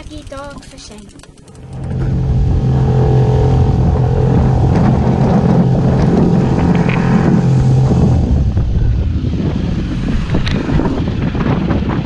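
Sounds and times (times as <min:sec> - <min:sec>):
boat engine droning: 0:00.0 - 0:12.0
water rushing along hull: 0:00.0 - 0:12.0.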